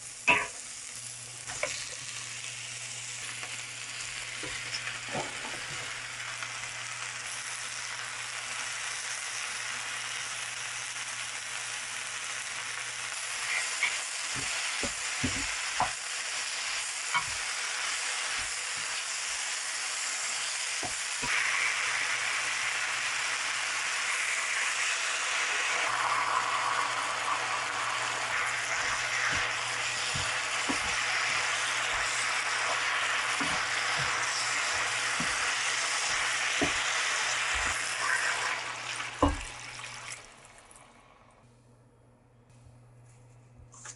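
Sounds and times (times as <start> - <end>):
food sizzling in a pan: 0.0 - 40.5.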